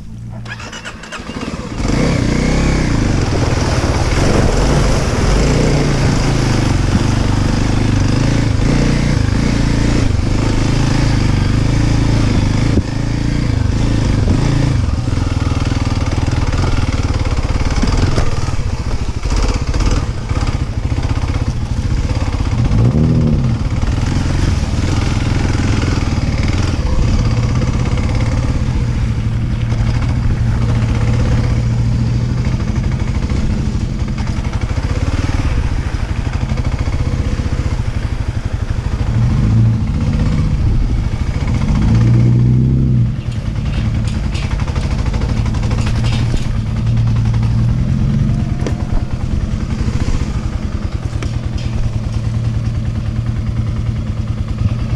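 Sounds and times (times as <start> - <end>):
dirt bike engine running: 0.0 - 54.9.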